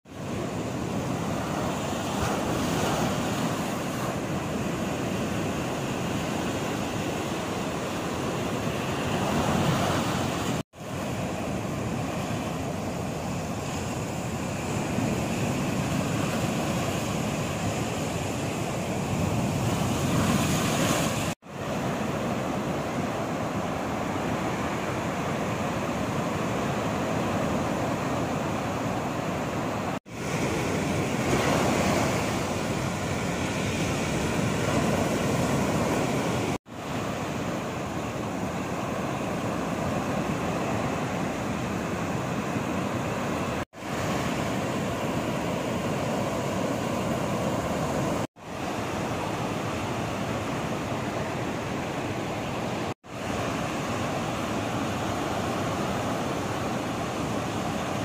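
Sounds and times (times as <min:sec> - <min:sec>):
strong wind: 0:00.1 - 0:58.0
surf breaking on beach and rocks: 0:00.1 - 0:58.0.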